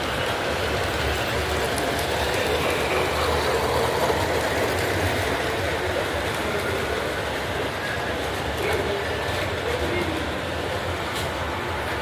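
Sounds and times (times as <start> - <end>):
crowd hubbub: 0.0 - 12.0
model trains rumbling on track: 0.0 - 12.0.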